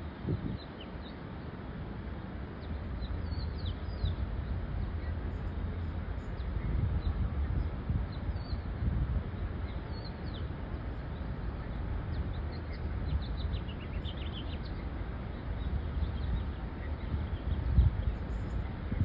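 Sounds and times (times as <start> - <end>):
birds chirping: 0.0 - 19.0
low uneven rumble: 0.0 - 19.0.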